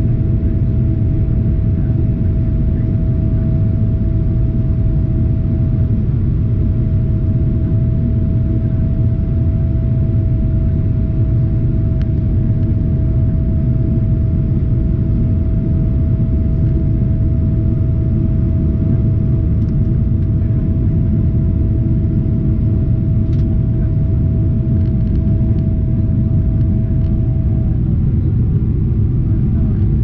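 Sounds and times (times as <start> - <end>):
jet airliner rumble: 0.0 - 30.0
mid-pitched hum: 0.0 - 30.0.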